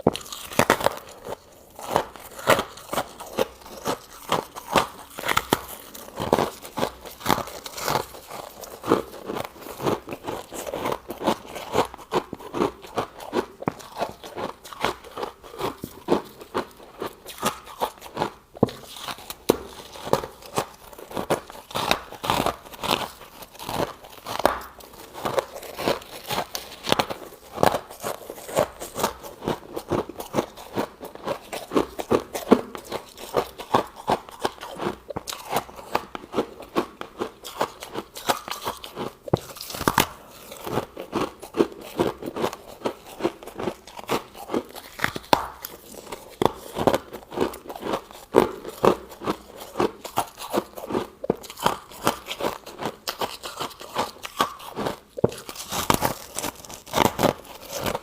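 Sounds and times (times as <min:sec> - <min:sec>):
frost crunching being chewed: 0:00.0 - 0:58.0.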